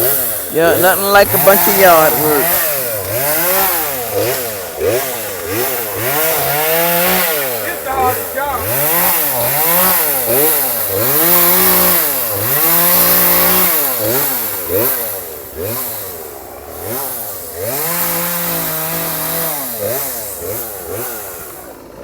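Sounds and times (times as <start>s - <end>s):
chainsaw revving: 0.0s - 22.0s.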